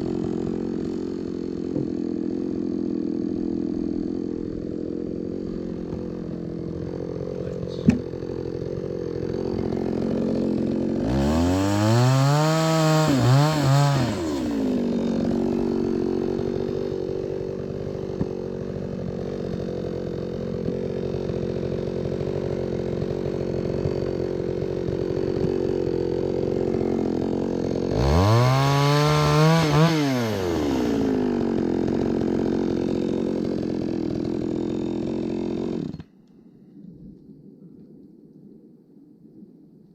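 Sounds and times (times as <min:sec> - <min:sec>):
chainsaw engine idling and revving: 0:00.0 - 0:36.2.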